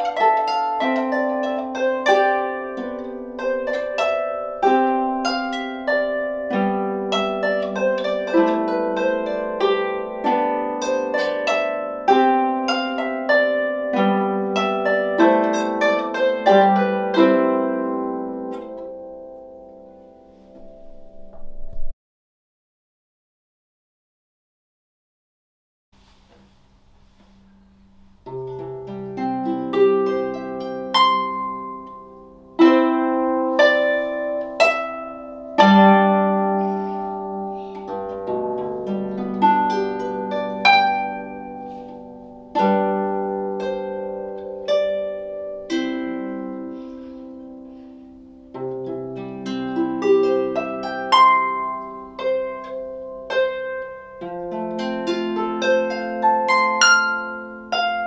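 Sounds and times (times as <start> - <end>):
harp playing: 0.0 - 21.9, 26.4 - 58.0.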